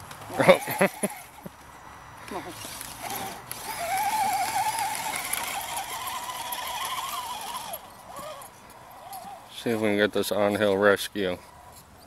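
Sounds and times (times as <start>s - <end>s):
electric motor and gears whining: 0.0s - 1.6s, 2.2s - 11.9s.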